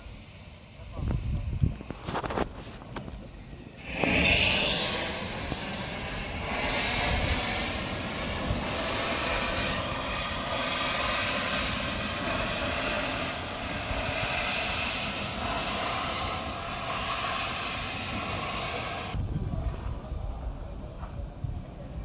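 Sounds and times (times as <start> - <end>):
steam locomotive hissing steam: 0.0 - 20.1.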